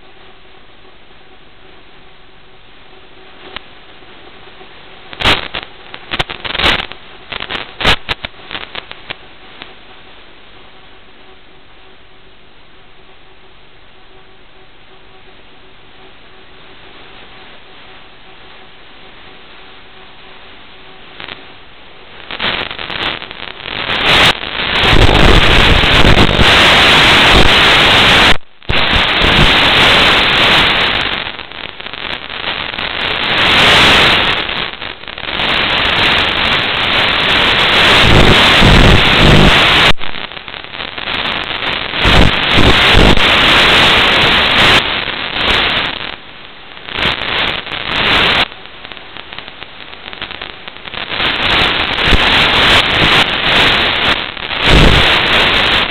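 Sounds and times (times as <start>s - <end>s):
radio static hiss: 0.0s - 55.9s.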